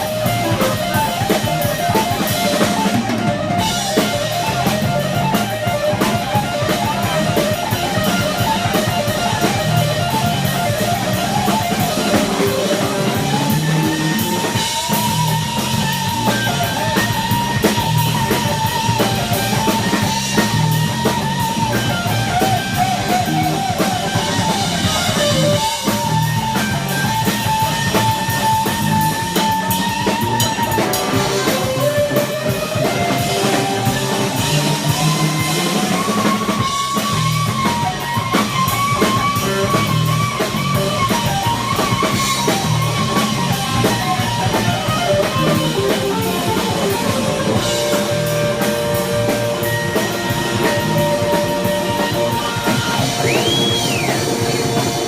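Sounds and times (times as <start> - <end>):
electric guitar bending notes: 0.0 - 55.0
steady drum beat: 0.0 - 55.0.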